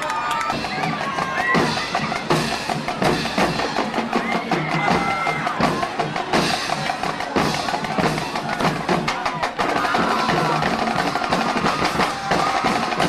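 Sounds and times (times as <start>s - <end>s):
crowd noise: 0.0s - 13.0s
marching band drums: 0.2s - 13.0s.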